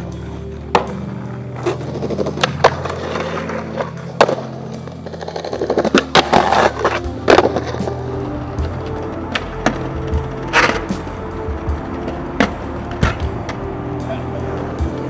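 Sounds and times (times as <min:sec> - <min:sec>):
background music: 0:00.0 - 0:15.0
skateboard clacks: 0:00.0 - 0:15.0
skateboard scraping: 0:00.0 - 0:15.0
skateboard wheels rolling: 0:00.0 - 0:15.0.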